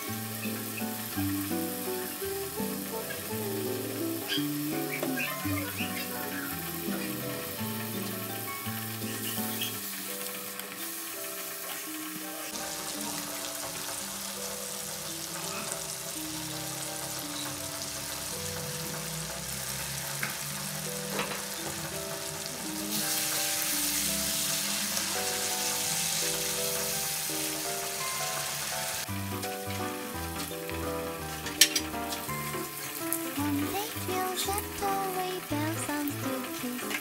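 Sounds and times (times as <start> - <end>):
spice paste sizzling in oil: 0.0 - 37.0.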